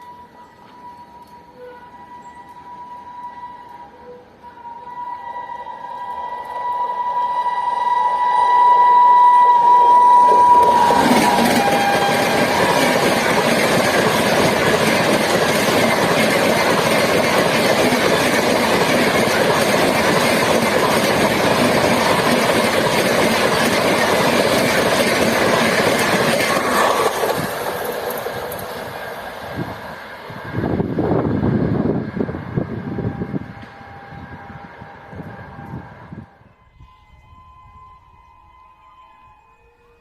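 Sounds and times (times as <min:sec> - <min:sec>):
locomotive horn: 0:00.0 - 0:27.0, 0:32.8 - 0:40.0
train wheels roaring on rail: 0:00.0 - 0:38.5.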